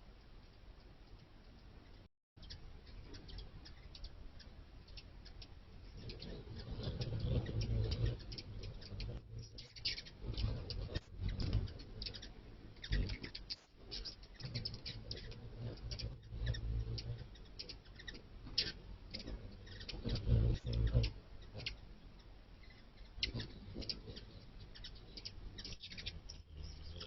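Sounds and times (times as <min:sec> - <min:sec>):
small wings whirring: 0:01.0 - 0:27.0.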